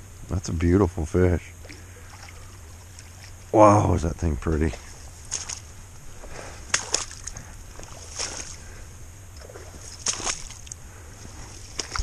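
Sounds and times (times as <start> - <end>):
low steady rumble: 0.0 - 12.0
fish splashing in shallow water: 1.5 - 12.0.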